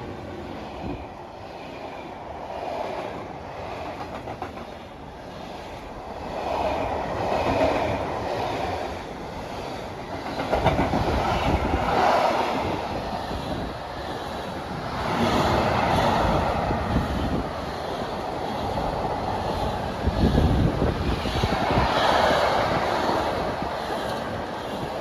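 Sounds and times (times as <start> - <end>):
train wheels clattering over rails: 2.9 - 25.0.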